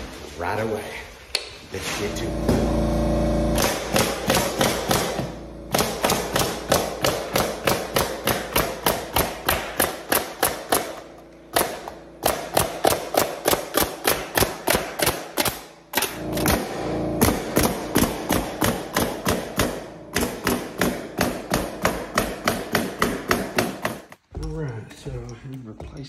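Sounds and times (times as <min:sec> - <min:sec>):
pneumatic nailer firing: 0:02.4 - 0:24.2.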